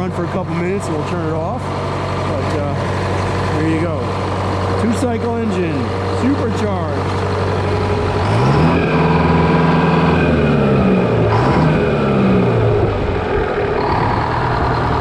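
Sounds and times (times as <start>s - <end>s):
diesel engine revving and idling: 0.0s - 15.0s.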